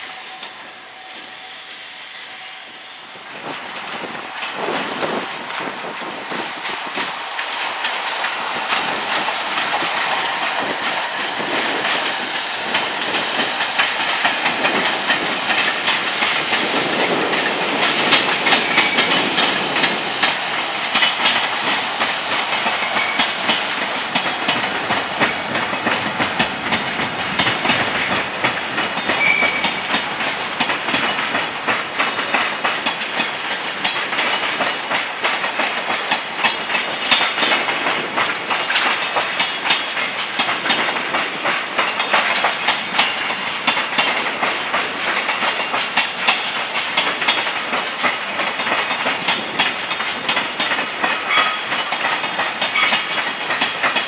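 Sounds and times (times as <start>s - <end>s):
freight train wheels clattering: 3.3s - 54.0s.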